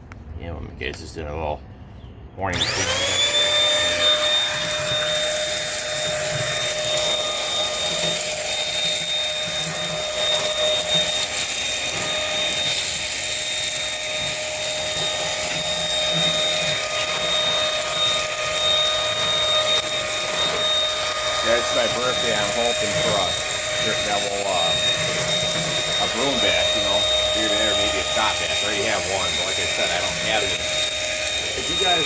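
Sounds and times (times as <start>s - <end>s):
stick vacuum motor whining: 2.5s - 32.0s.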